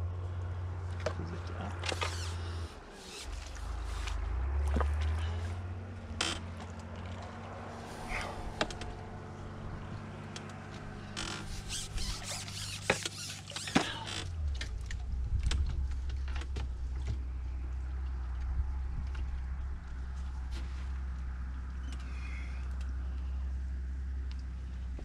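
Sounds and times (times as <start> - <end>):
steady low hum: 0.0 - 25.0
fishing tackle creaks and clicks: 0.9 - 20.4, 21.0 - 23.3.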